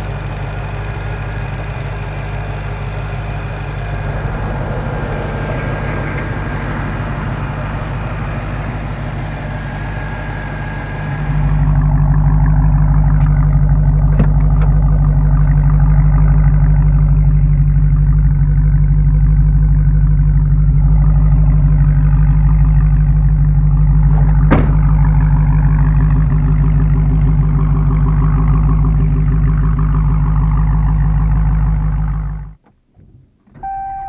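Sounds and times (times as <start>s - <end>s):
car engine running loud: 0.0s - 32.6s.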